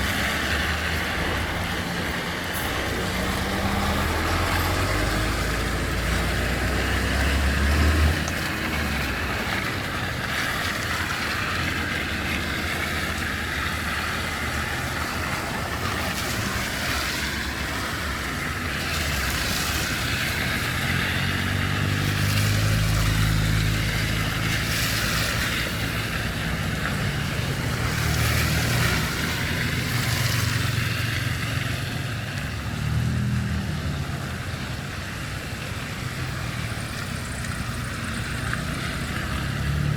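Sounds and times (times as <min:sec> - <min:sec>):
road noise hiss: 0:00.0 - 0:39.9
vehicles passing: 0:00.0 - 0:39.9.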